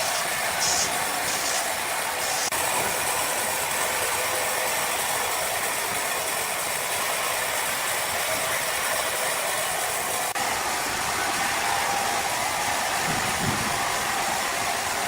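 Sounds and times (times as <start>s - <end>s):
sawmill saw cutting log: 0.0s - 14.6s.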